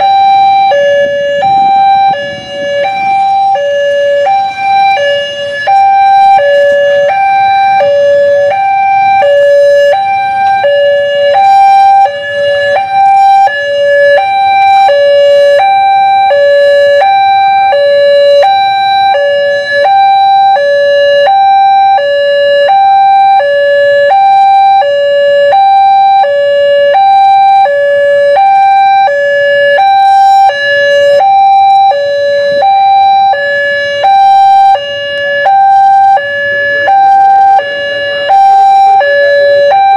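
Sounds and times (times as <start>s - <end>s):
two-tone level crossing alarm: 0.0s - 39.9s.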